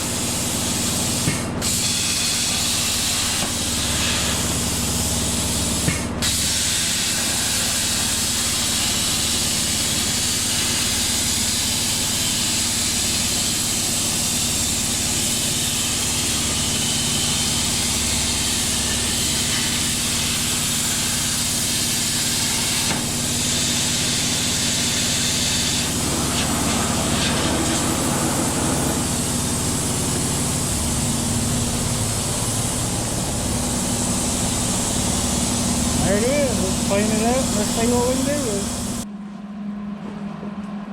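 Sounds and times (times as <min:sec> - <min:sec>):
plasma arc hissing: 0:00.0 - 0:39.0
fan humming: 0:00.0 - 0:40.9.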